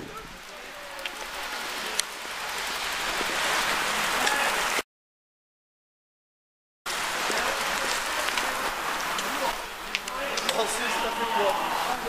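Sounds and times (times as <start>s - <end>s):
steady outdoor hiss: 0.0s - 4.8s, 6.9s - 12.0s.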